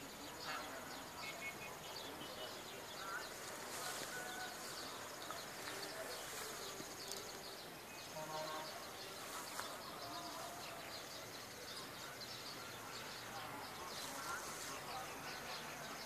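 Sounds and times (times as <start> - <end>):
small birds chirping: 0.0 - 16.0
steady high hiss: 0.0 - 16.0.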